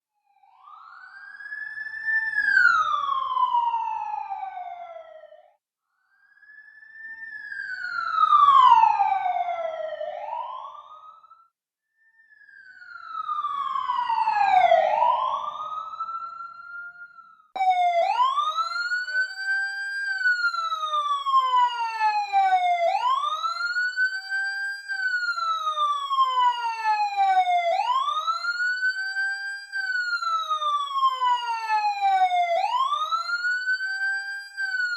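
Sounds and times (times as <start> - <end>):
emergency siren wailing: 0.4 - 5.5, 6.4 - 11.4, 12.3 - 34.9.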